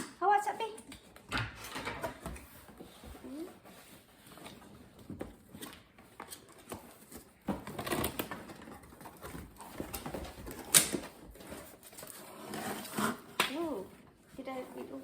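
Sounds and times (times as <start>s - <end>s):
cardboard box rustling and scraping: 2.1s - 15.0s.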